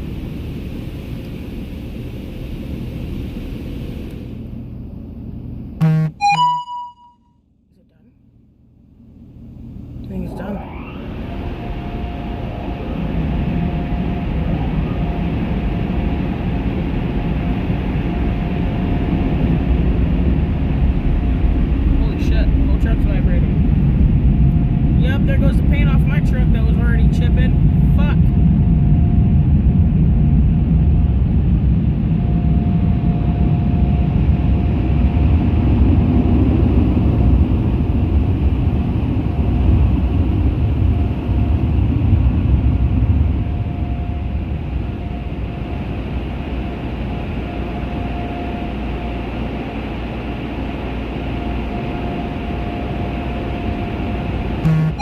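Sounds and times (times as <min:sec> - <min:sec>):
car wash machinery rumbling: 0:00.0 - 0:05.7, 0:09.0 - 0:55.0
faint steady whine: 0:00.0 - 0:55.0.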